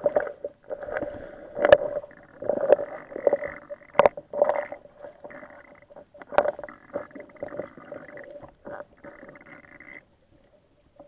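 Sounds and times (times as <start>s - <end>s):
muffled underwater sloshing: 0.0s - 11.0s.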